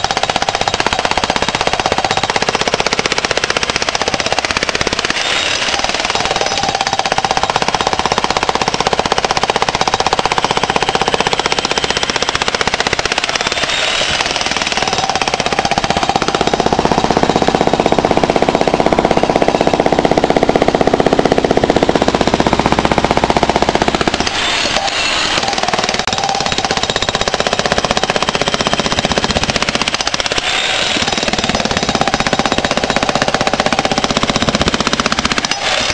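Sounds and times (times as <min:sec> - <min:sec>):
jackhammer breaking concrete: 0:00.0 - 0:35.9.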